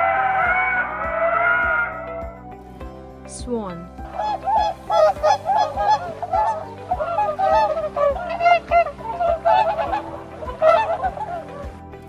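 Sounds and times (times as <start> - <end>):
swans honking: 0.0 - 2.4, 3.8 - 12.0
background music: 0.0 - 12.0.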